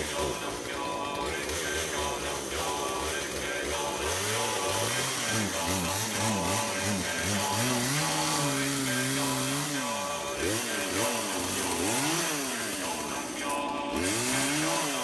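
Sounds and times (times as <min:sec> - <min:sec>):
chainsaw engine running: 0:00.0 - 0:15.0.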